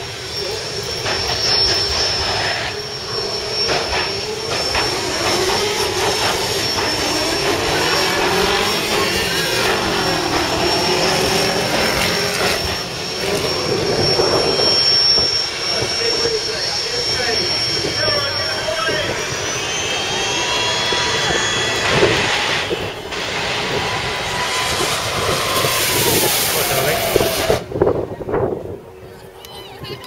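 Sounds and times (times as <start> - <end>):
loud engine running: 0.0 - 28.0.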